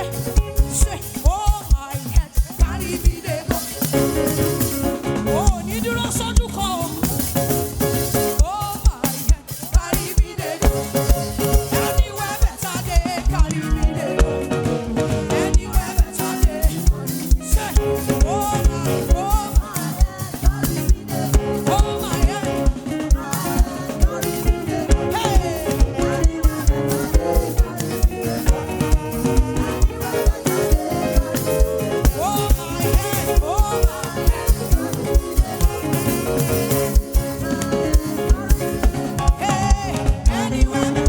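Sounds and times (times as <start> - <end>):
keyboard: 0.0 - 41.0
live gospel band playing: 0.0 - 41.0
person singing: 0.0 - 41.0.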